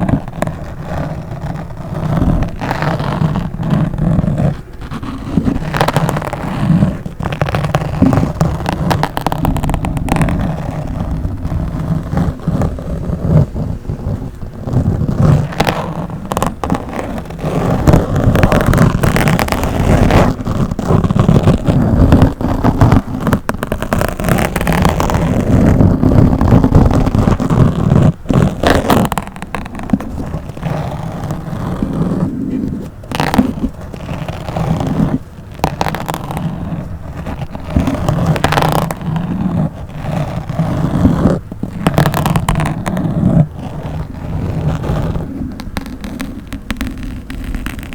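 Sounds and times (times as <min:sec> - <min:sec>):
scratching on a microphone: 0:00.0 - 0:47.9.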